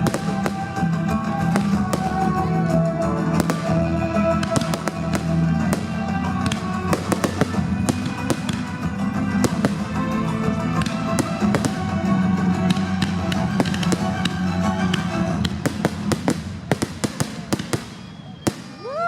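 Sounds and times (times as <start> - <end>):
loud music: 0.0 - 17.4
fireworks bangs and crackles: 0.0 - 19.0.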